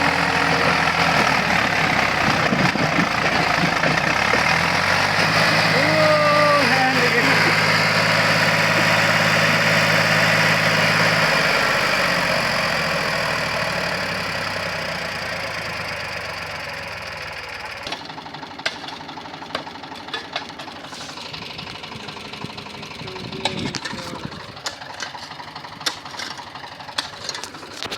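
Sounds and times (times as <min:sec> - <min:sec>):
diesel tractor engine knocking: 0:00.0 - 0:27.9.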